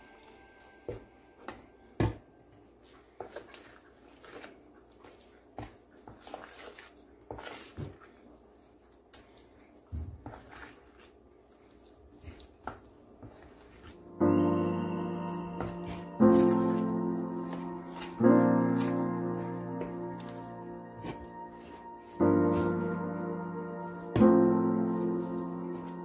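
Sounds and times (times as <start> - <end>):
wet batter stirring: 0.0 - 26.0.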